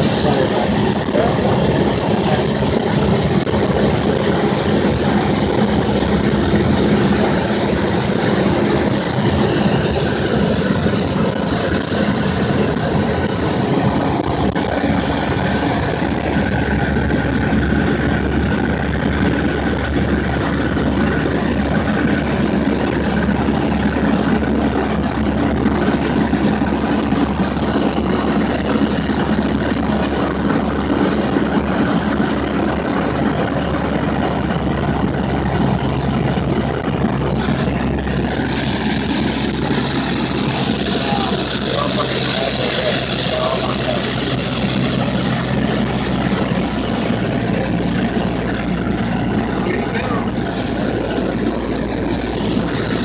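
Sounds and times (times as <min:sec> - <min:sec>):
airplane engine droning: 0:00.0 - 0:53.0.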